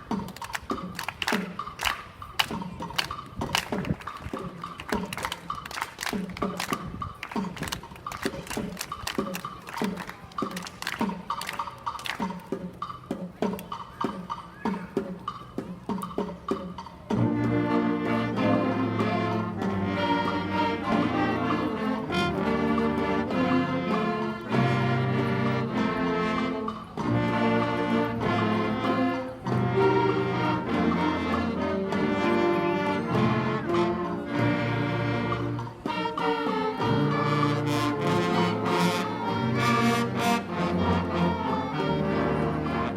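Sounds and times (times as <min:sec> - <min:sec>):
concert band playing: 0:00.0 - 0:42.9.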